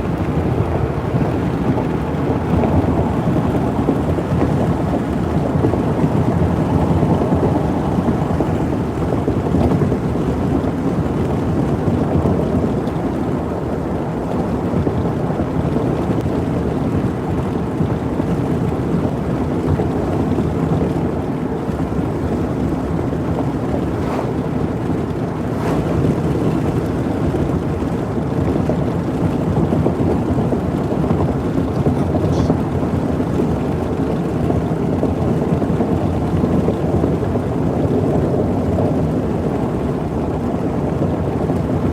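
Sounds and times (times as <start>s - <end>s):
vehicle road and wind noise: 0.0s - 41.9s.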